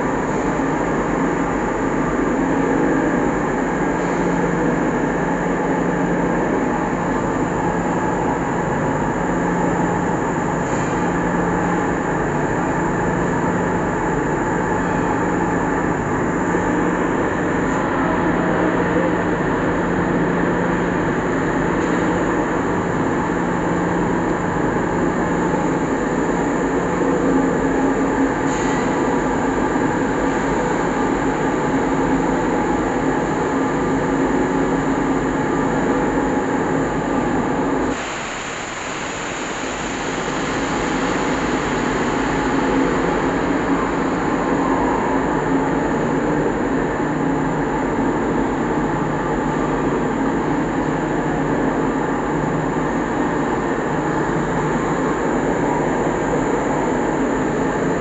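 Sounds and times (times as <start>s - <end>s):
loud factory machinery din: 0.0s - 58.0s.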